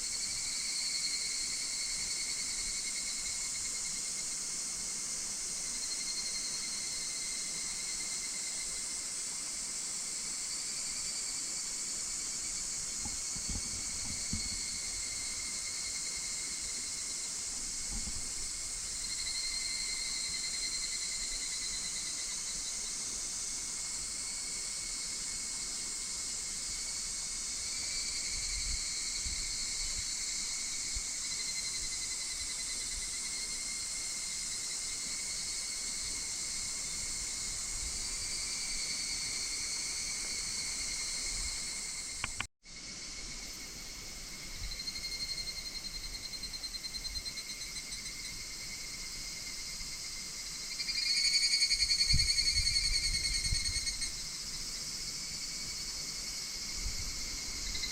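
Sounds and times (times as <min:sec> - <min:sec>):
cicadas calling in pulsed notes: 0:00.0 - 0:57.9
high hiss of insects: 0:00.0 - 0:57.9.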